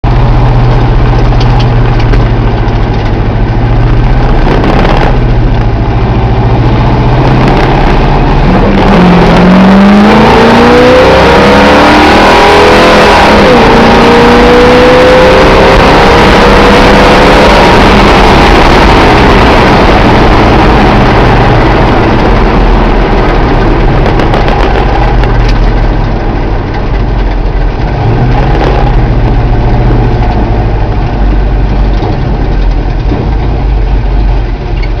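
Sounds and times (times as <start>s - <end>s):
truck engine idling and revving: 0.0s - 35.0s.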